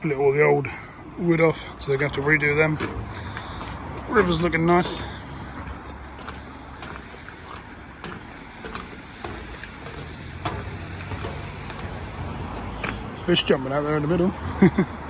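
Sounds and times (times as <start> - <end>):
light clicks and knocks: 1.5 - 13.9.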